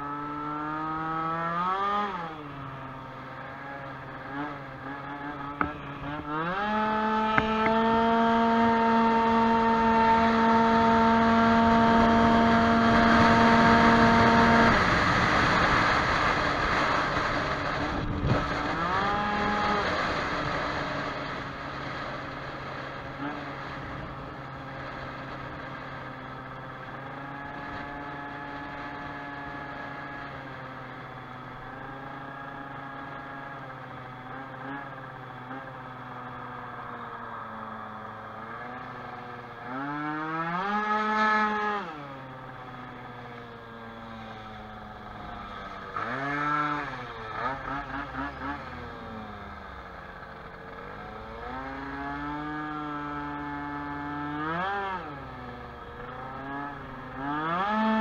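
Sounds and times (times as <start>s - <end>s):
two-stroke scooter engine revving: 0.0s - 58.0s.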